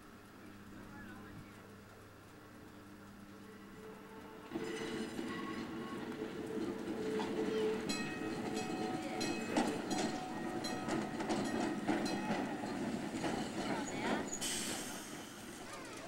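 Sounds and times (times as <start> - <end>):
streetcar rumbling past: 0.0 - 16.0
wheels clacking over rail joints: 1.2 - 16.0.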